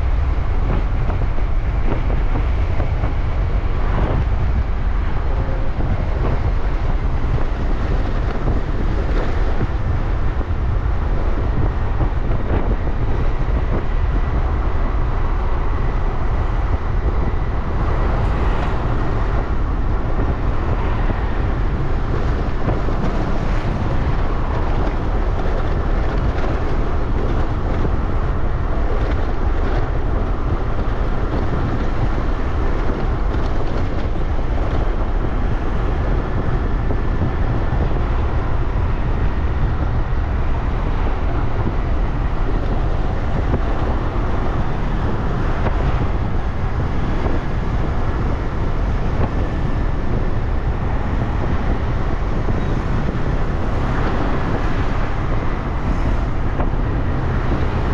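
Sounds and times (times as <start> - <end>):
road traffic: 0.0 - 57.9
wind noise on microphone: 0.0 - 57.9.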